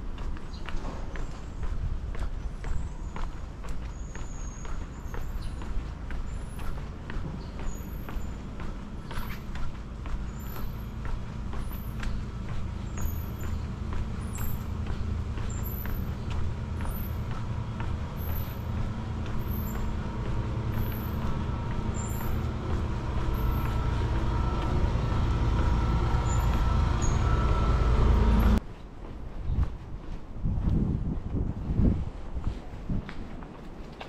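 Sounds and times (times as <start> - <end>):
vehicle engine rumbling: 0.0 - 28.6.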